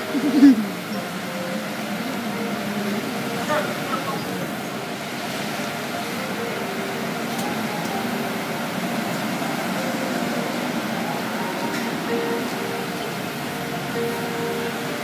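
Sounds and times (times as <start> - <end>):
car wash machinery running: 0.0 - 15.0.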